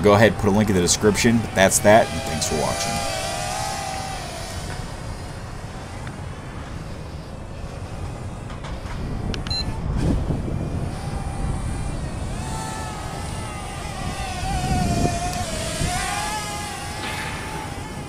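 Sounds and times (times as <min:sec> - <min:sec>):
drone propellers whining: 0:00.0 - 0:18.0
wind rumble on microphone: 0:00.0 - 0:18.0.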